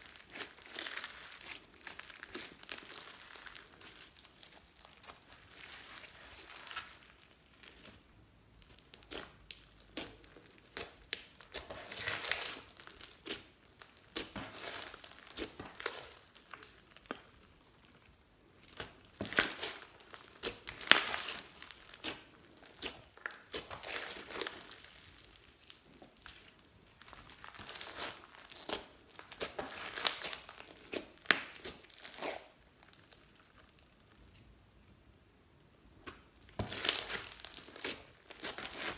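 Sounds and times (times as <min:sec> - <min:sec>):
slime sticky crackling and tearing: 0:00.0 - 0:34.7, 0:35.9 - 0:38.9.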